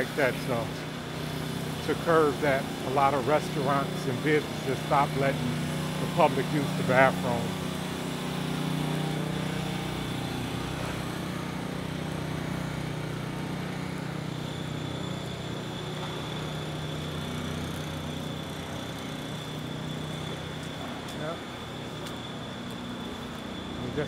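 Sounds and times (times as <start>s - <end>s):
high-pitched whine: 0.0s - 24.0s
low mechanical hum: 0.0s - 24.0s.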